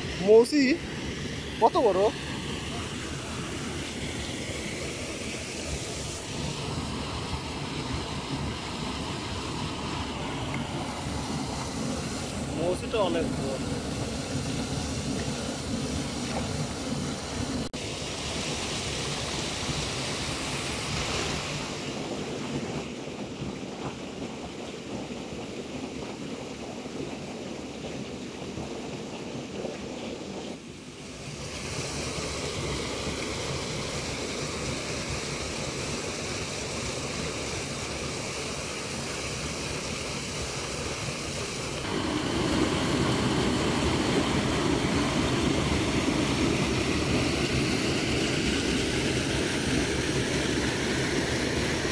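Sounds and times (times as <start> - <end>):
churning pool: 0.0 - 51.9
water pouring over spillway: 0.0 - 51.9.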